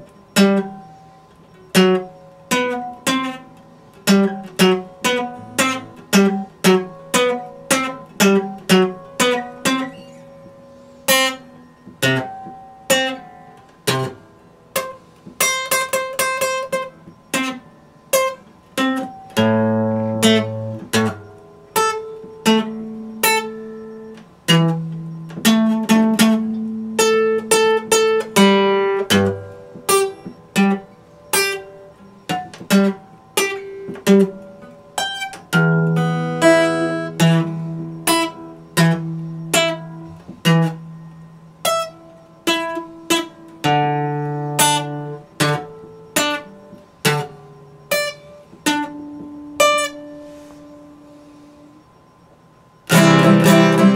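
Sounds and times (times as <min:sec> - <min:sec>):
acoustic guitar plucked: 0:00.0 - 0:53.9.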